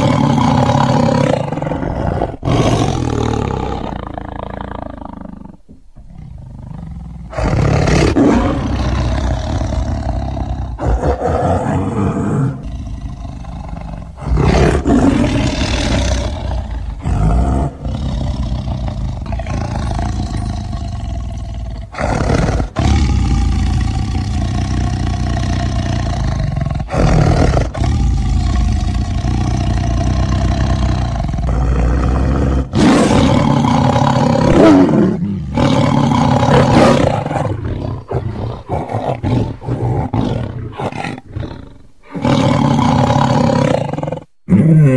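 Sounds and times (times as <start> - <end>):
tigers roaring and growling: 0.0 - 44.9.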